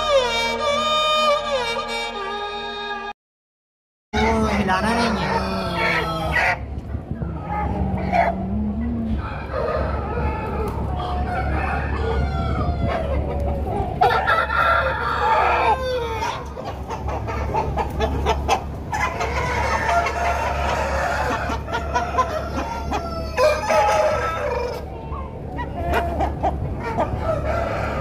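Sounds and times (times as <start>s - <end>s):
chickens clucking: 4.2s - 28.0s.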